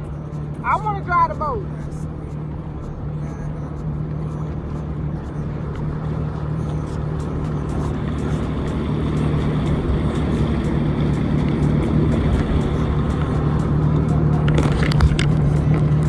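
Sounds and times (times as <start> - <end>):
jet ski engine humming: 0.0 - 16.0.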